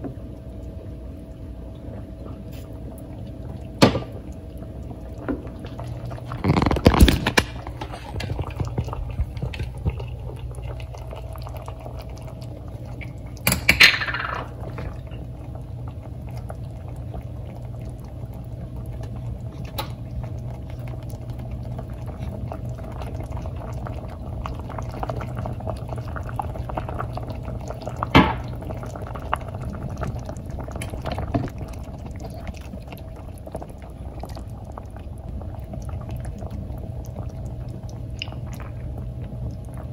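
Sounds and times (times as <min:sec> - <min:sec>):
soup simmering and bubbling: 0:00.0 - 0:39.9
steady low hum: 0:00.0 - 0:39.9.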